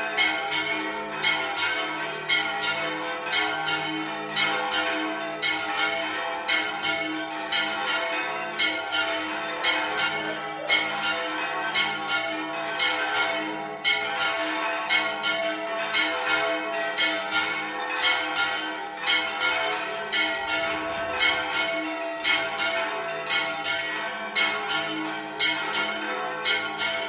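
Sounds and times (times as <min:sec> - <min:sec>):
church bells pealing: 0:00.0 - 0:27.0.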